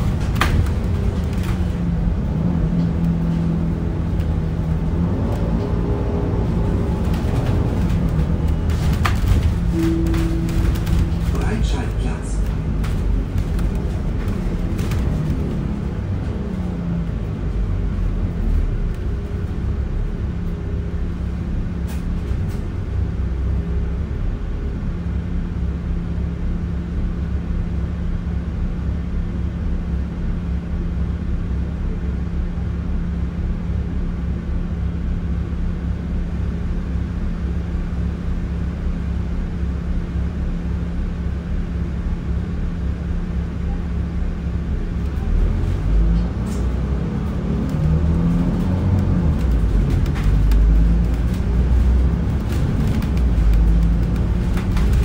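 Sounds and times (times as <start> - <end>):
air-conditioning: 0.0 - 55.0
bus engine drone: 0.0 - 55.0.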